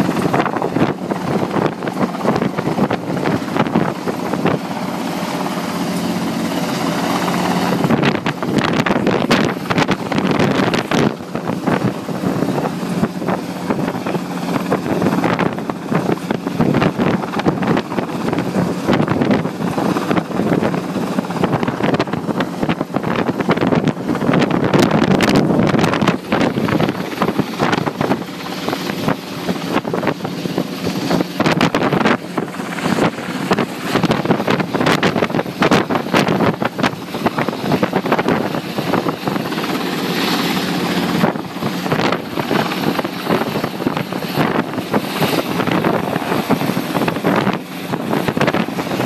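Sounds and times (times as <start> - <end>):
helicopter rotors and engine: 0.0 - 49.0
wind buffeting microphone: 0.0 - 49.0.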